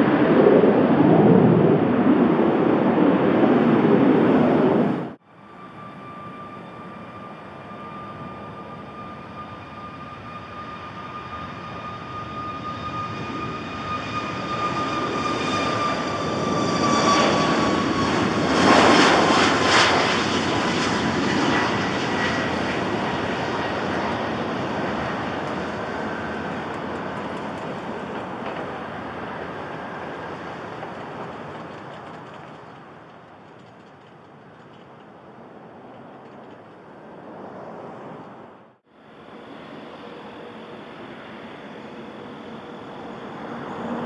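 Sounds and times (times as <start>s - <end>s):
jet airliner passing by: 0.0s - 44.0s
jet engine whine: 0.0s - 44.0s.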